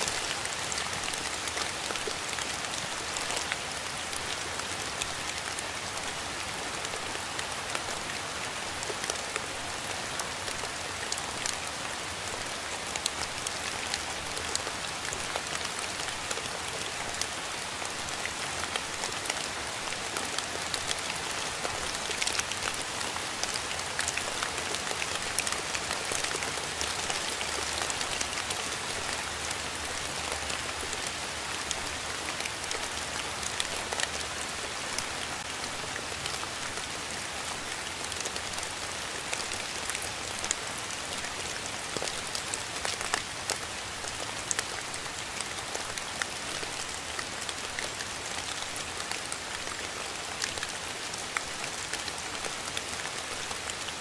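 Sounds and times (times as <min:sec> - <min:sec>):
rain hissing on a surface: 0:00.0 - 0:54.0.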